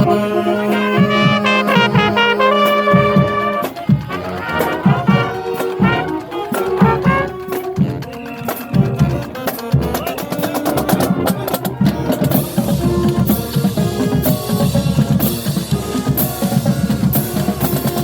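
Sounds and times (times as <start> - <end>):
marching band playing: 0.0 - 18.0
snare and bass drums: 0.9 - 18.0.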